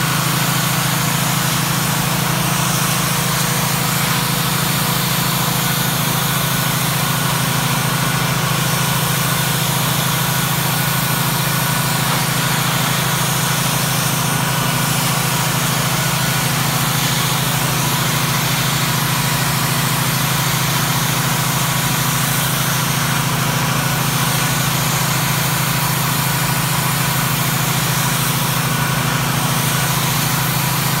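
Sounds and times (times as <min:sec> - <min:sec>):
pressure washer running: 0:00.0 - 0:31.0
water jet spraying against wood: 0:00.0 - 0:31.0.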